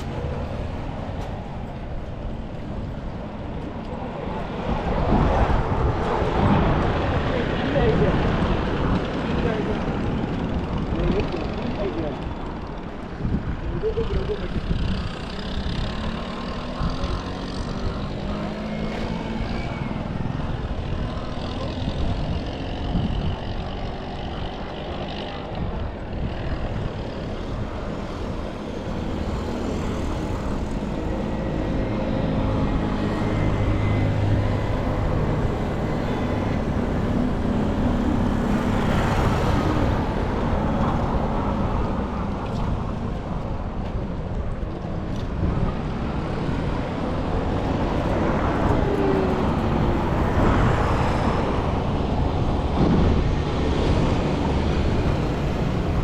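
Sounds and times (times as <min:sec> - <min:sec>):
traffic hum: 0:00.0 - 0:56.0
vehicles passing close by: 0:00.0 - 0:56.0.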